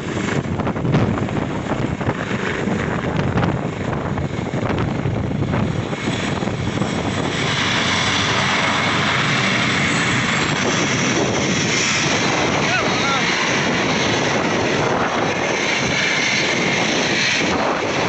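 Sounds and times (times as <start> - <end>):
helicopter engine and rotors: 0.0 - 18.0
wind buffeting microphone: 0.0 - 18.0.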